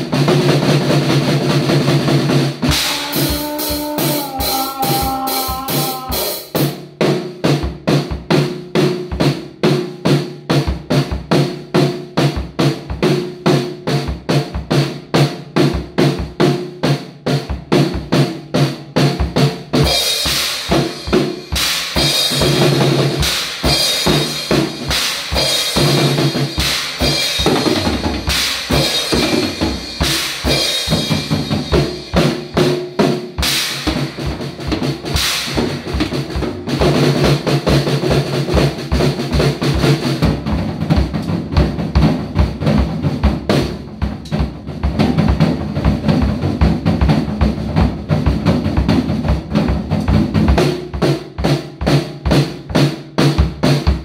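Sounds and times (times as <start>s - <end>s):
drum kit rock beat: 0.0s - 54.0s.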